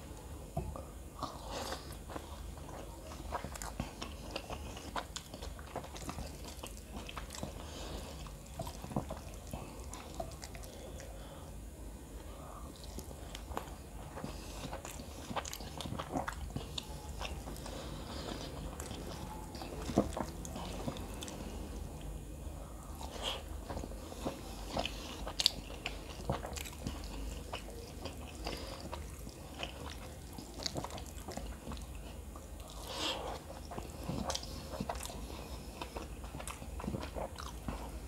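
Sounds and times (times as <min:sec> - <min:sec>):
man chewing with wet smacks: 0:00.0 - 0:38.0
steady low hum: 0:00.0 - 0:38.0.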